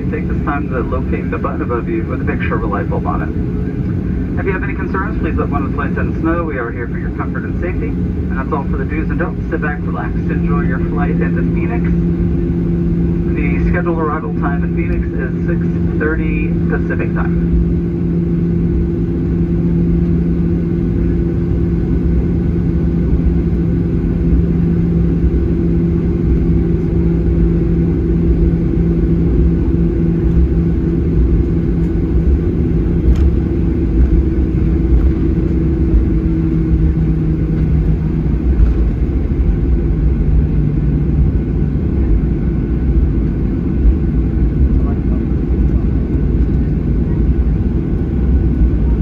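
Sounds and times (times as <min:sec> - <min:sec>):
airplane cabin engine rumble: 0:00.0 - 0:49.0
constant engine hum: 0:00.0 - 0:49.0.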